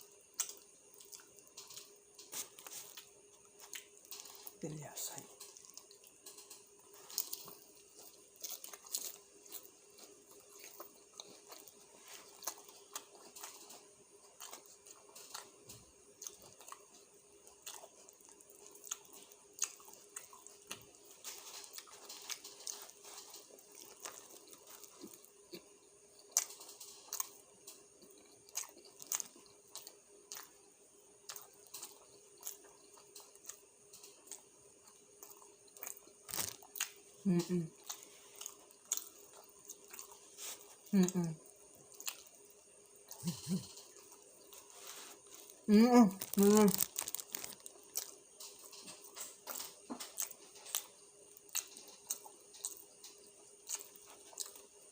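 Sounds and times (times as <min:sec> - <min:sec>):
chewing food: 0:00.0 - 0:54.9
faint steady hum: 0:00.0 - 0:54.9.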